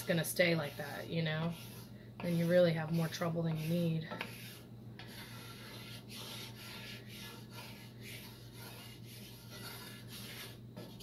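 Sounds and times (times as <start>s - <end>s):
spoon scraping a cast iron pot: 0.0s - 11.0s.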